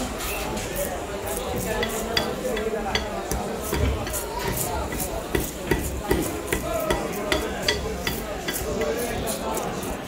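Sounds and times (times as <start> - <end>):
knife scraping fish scales: 0.2 - 10.0.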